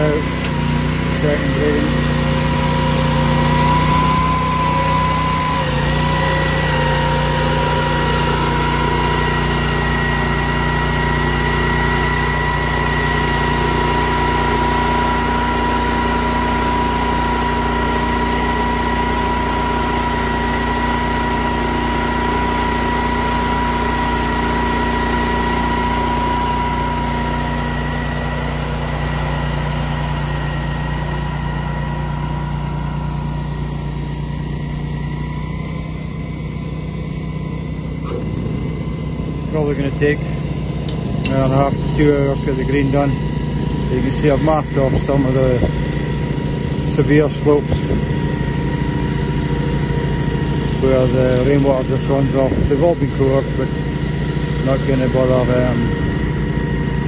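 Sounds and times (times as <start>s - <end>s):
high whine: 0.0s - 57.0s
petrol engine running under load: 0.0s - 57.0s.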